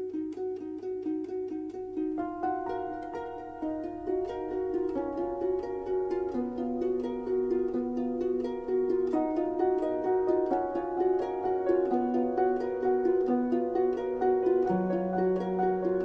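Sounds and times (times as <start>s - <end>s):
plucked string melody: 0.0s - 16.0s.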